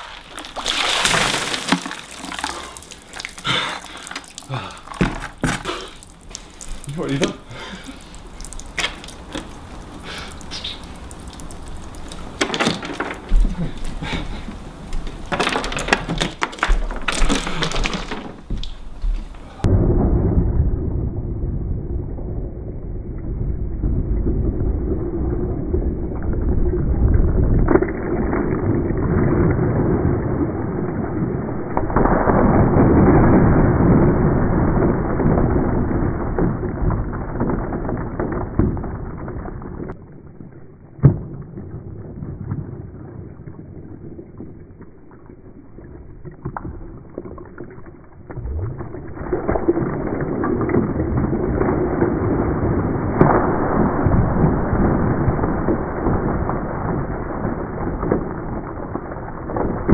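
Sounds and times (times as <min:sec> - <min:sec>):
water pouring and splashing: 0:00.0 - 0:19.7, 0:23.8 - 0:59.9.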